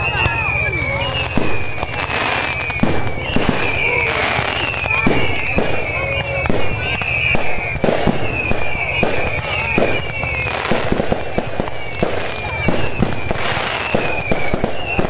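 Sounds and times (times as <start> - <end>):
fireworks bangs and crackles: 0.0 - 15.0
high falling firework whistle: 0.0 - 15.0.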